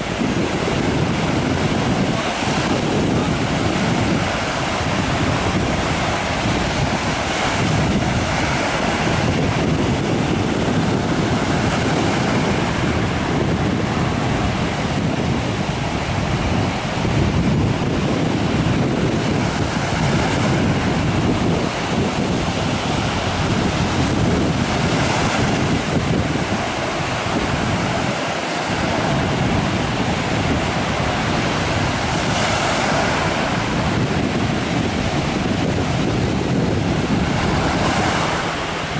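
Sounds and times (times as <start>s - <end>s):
waves washing up a beach: 0.0s - 38.9s
wind buffeting microphone: 0.0s - 38.9s.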